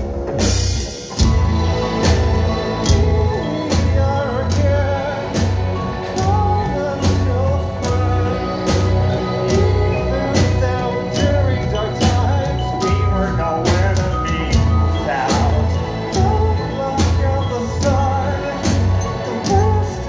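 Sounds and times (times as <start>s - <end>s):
drum kit: 0.0s - 20.0s
electric bass: 0.4s - 20.0s
person singing: 1.7s - 20.0s.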